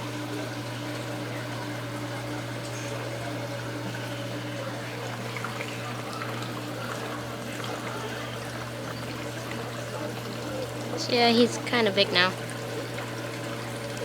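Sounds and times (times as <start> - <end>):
aquarium pump hum: 0.0 - 14.0
water trickling and splashing: 0.1 - 14.0.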